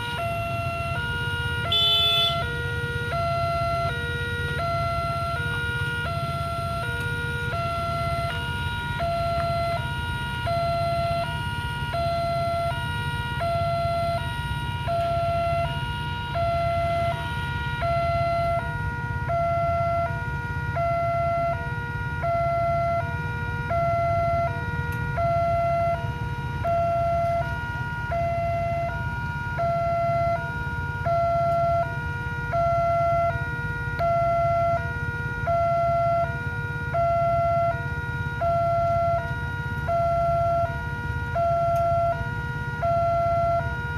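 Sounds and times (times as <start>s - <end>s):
level crossing two-tone alarm: 0.0s - 43.9s
vehicles idling rumble: 0.0s - 43.9s.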